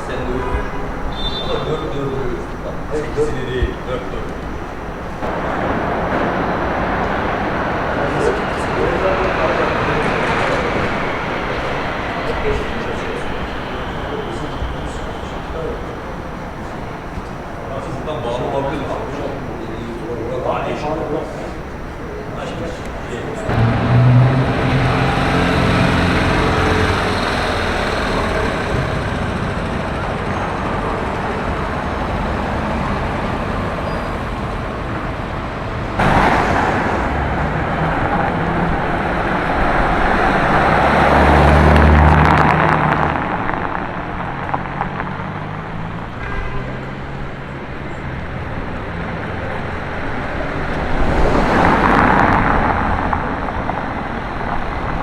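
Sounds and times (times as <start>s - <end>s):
car passing close: 0.0s - 55.0s
hum of passing traffic: 0.0s - 55.0s.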